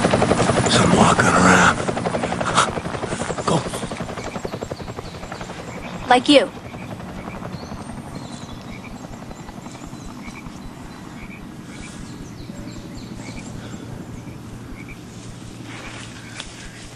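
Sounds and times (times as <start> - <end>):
steady low rumble: 0.0 - 16.9
small animals chirping: 0.7 - 15.0.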